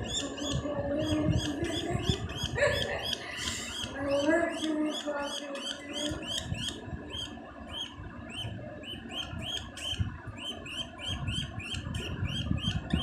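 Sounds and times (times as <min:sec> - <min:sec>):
budgerigar chick chirping: 0:00.0 - 0:13.0.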